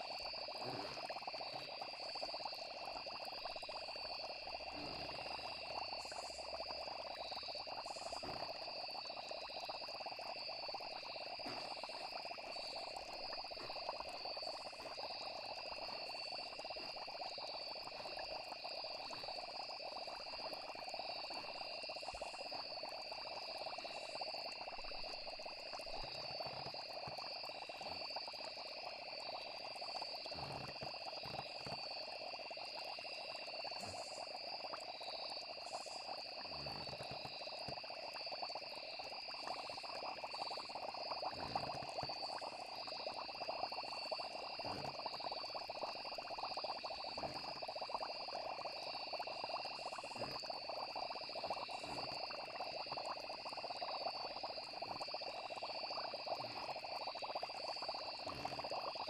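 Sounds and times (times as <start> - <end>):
frogs chorus: 0.0 - 59.0
insects trilling: 0.0 - 59.0.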